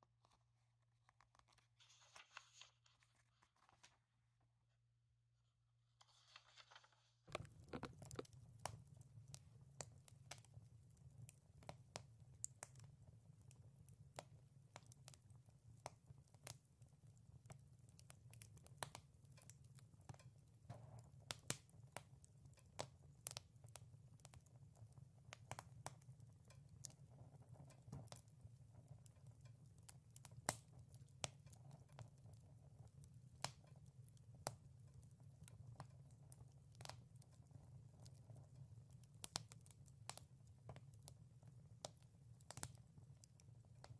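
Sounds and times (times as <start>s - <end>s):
wood fire crackling: 6.0s - 43.9s.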